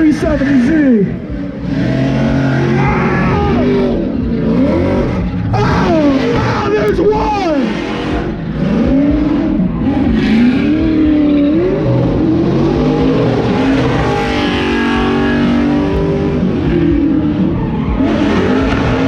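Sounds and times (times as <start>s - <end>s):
car engine revving: 0.0s - 19.0s
tyres skidding: 0.0s - 19.0s.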